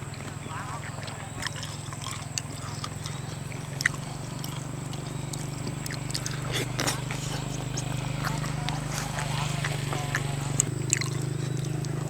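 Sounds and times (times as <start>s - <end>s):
person chewing seafood: 0.0s - 12.0s
steady low hum: 0.0s - 12.0s.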